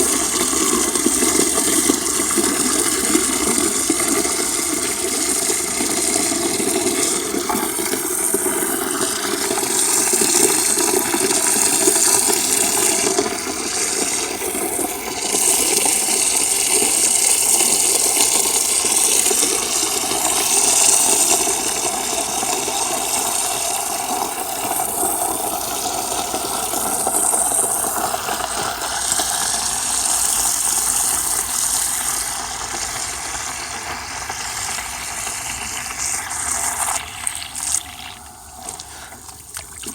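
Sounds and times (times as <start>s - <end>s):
water pouring into a crock: 0.0s - 39.9s.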